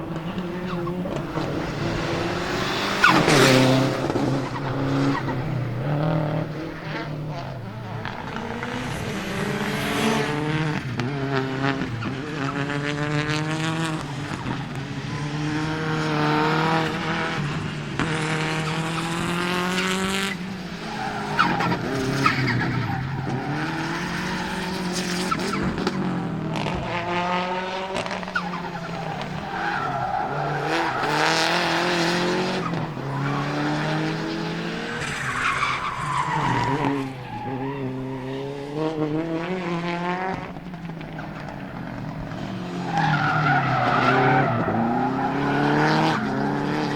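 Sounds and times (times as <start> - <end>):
rally car engine revving: 0.0 - 46.9
tyres skidding on gravel: 0.0 - 46.9.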